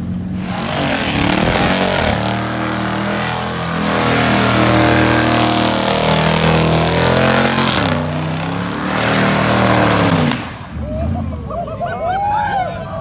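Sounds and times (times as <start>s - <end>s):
car engine revving hard: 0.0s - 11.3s.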